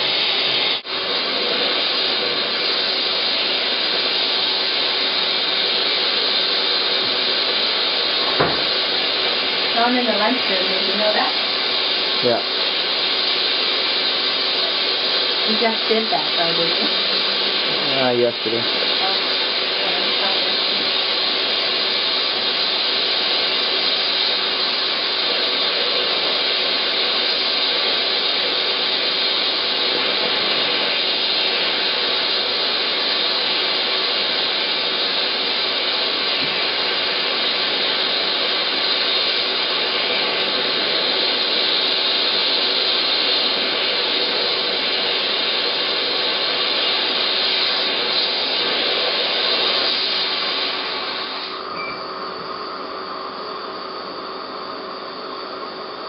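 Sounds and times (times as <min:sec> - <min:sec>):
dental drill and suction hiss: 0:00.0 - 0:56.0.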